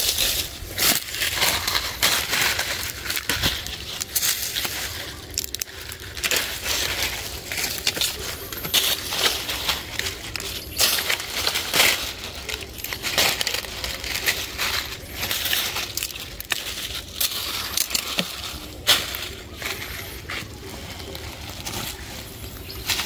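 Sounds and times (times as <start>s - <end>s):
dry leaves rustling: 0.0s - 23.0s
plastic sack crackling: 0.0s - 23.0s.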